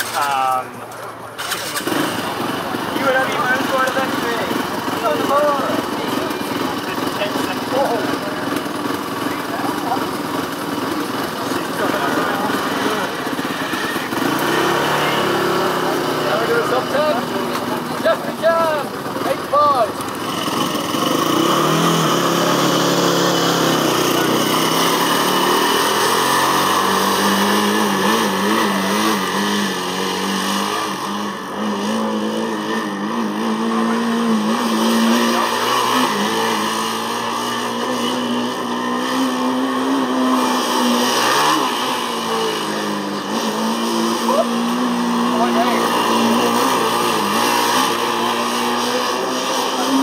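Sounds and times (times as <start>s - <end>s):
race car engine revving: 0.0s - 50.0s.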